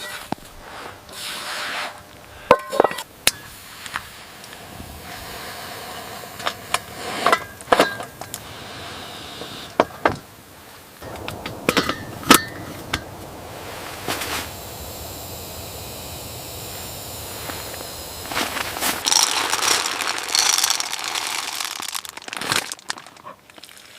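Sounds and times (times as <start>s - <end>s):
faint steady hiss: 0.0s - 23.9s.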